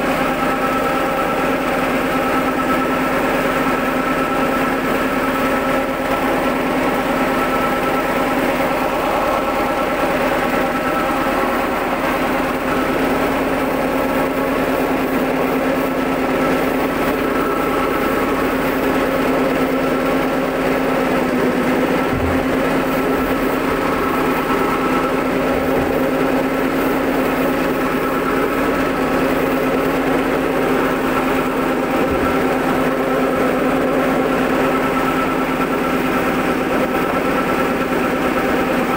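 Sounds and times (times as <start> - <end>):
machine humming: 0.0 - 38.9.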